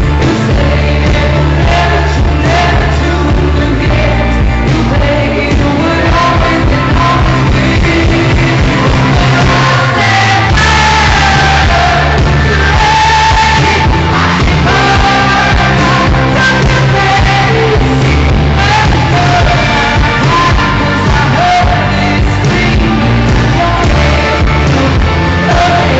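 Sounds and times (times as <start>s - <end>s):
full band with drums and bass: 0.0s - 25.9s.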